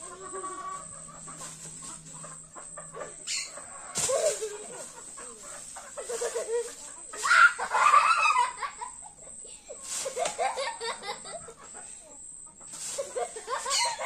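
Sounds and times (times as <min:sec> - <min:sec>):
chatter: 0:00.0 - 0:14.0
steady high hiss: 0:00.0 - 0:14.0
girls laughing and shrieking: 0:02.4 - 0:14.0.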